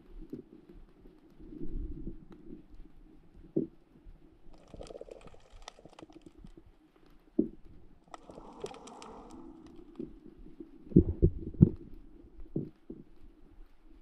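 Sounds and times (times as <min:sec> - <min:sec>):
underwater crackling and clicking: 0:00.0 - 0:14.0.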